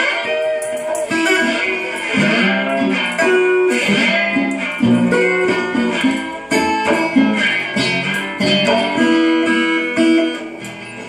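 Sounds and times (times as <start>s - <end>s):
amplified resonator guitar fingerpicking: 0.0s - 11.0s.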